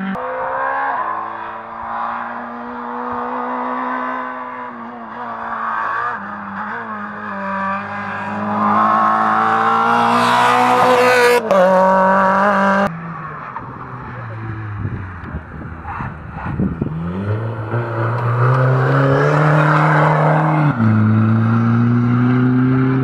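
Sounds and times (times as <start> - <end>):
rally car engine at full throttle: 0.0 - 23.0.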